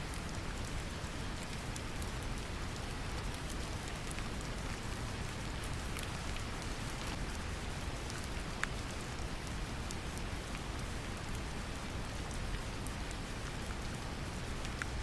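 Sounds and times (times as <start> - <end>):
gentle rain drops: 0.0 - 15.0.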